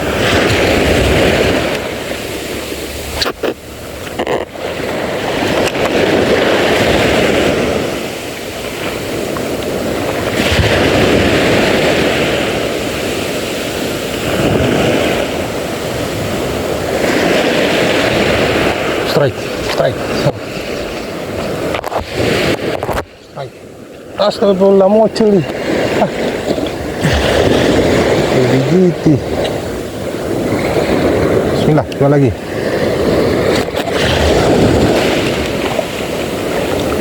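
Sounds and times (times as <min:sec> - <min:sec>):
sea waves: 0:00.0 - 0:37.0
wind buffeting microphone: 0:00.0 - 0:37.0.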